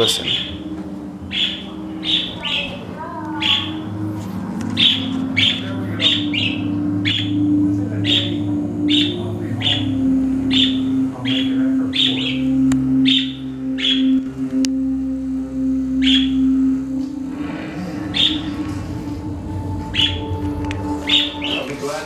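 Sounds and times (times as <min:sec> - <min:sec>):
pet birds chirping: 0:00.0 - 0:14.2, 0:16.0 - 0:16.6, 0:18.0 - 0:21.8
low hum: 0:00.0 - 0:22.0.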